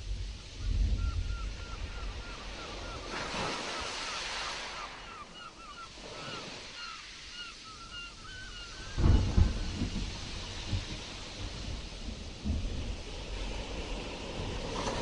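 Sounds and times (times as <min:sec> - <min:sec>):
sea waves breaking: 0:00.0 - 0:15.0
wind: 0:00.0 - 0:15.0.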